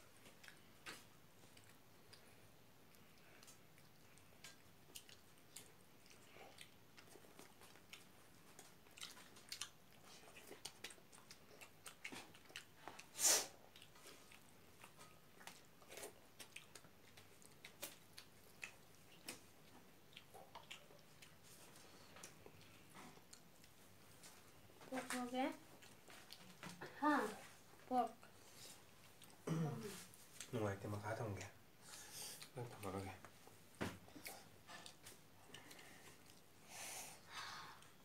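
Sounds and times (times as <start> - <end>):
people chewing and lip smacks: 0.1 - 38.0.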